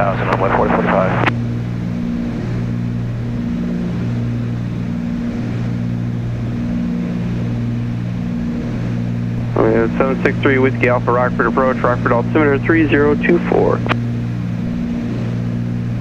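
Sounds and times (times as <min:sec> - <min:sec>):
airplane engines droning: 0:00.0 - 0:16.0.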